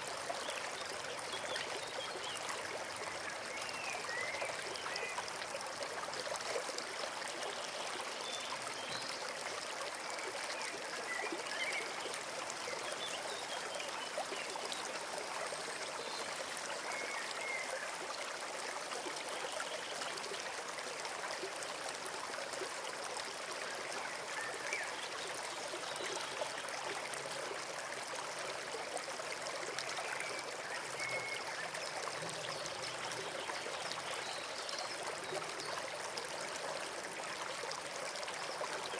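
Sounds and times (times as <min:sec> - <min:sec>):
stream trickling water: 0:00.0 - 0:38.9.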